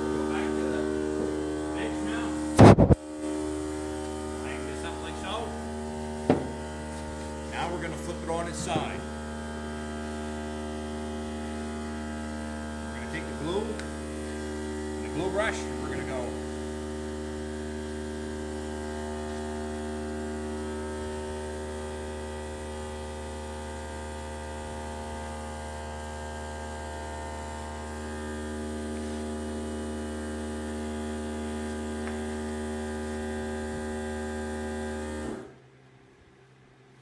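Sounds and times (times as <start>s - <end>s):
electric motor hum: 0.0s - 35.6s.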